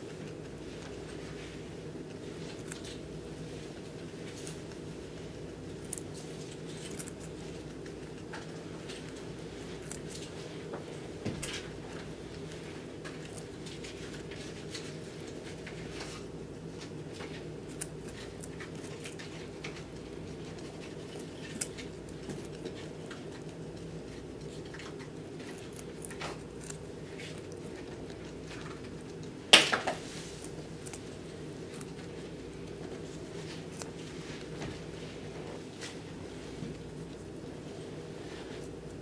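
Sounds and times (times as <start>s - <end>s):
guinea pig chewing carrot: 0.0s - 39.0s
steady low hum: 0.0s - 39.0s.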